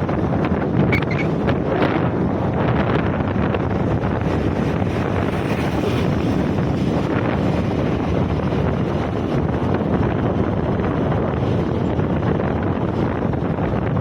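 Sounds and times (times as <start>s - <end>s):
road noise: 0.0s - 14.0s
wind rushing over microphone: 0.0s - 14.0s.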